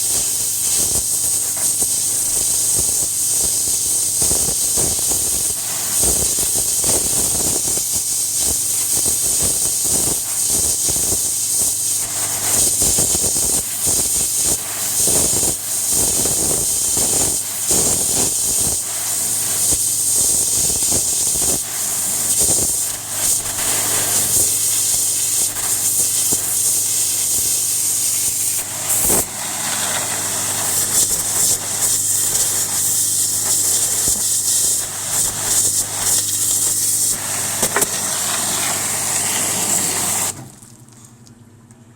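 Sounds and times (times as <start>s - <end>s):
pressure washer jet hissing: 0.0s - 40.5s
crackling water spatter: 0.0s - 41.4s
motor and pump humming: 0.0s - 41.9s.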